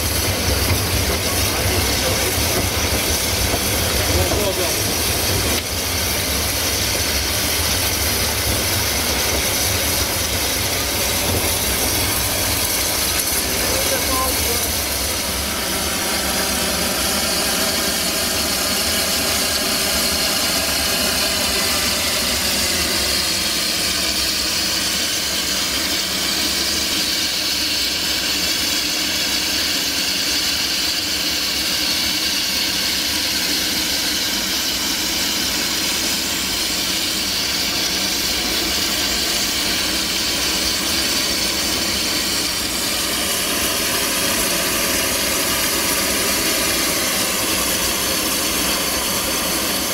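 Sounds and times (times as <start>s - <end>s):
steam locomotive hissing: 0.0s - 49.9s.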